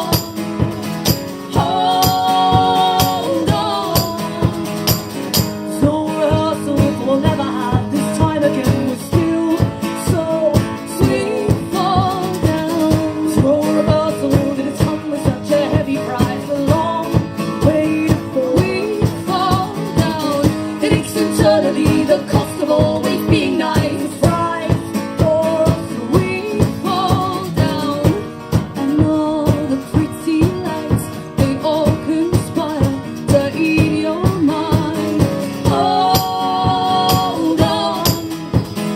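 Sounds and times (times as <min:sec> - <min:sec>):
strummed guitar: 0:00.0 - 0:38.9.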